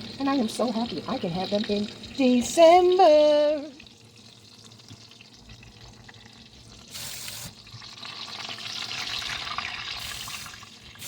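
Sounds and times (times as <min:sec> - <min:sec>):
tomato slices sizzling in oil: 0:00.0 - 0:11.0.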